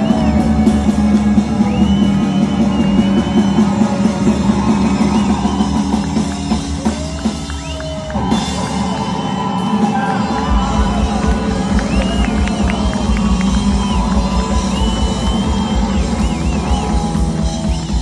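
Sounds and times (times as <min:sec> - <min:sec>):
drum kit: 0:00.0 - 0:18.0
rockabilly band playing: 0:00.0 - 0:18.0.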